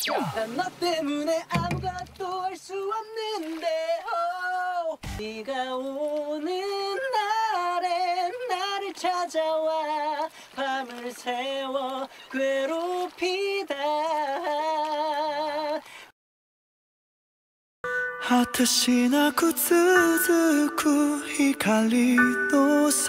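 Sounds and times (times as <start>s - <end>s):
man singing unaccompanied: 0.1s - 15.8s, 18.2s - 23.0s.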